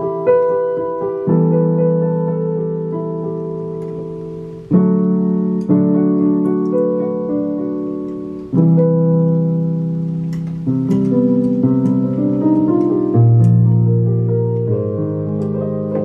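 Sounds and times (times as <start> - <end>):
digital piano playing chords: 0.0 - 16.0.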